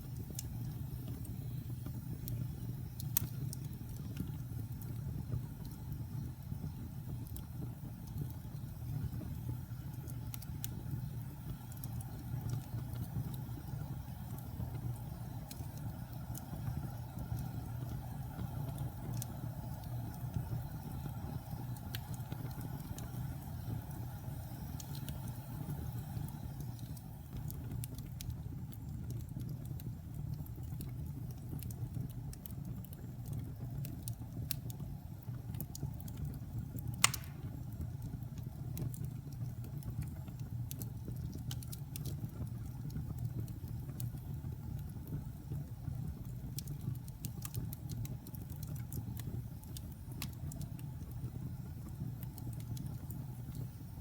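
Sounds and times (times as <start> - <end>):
low rumble of fire: 0.0 - 54.0
wood fire crackling: 0.0 - 54.0.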